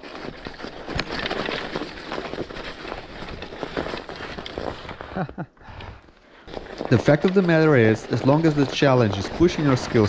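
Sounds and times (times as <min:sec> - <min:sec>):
bike tyres crunching over snow: 0:00.0 - 0:05.5, 0:06.3 - 0:10.0.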